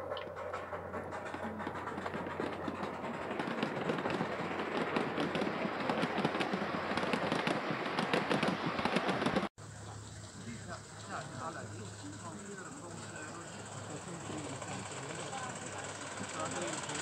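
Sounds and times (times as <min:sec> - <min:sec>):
model train wheels clicking on track: 0:00.0 - 0:09.5, 0:10.5 - 0:17.0.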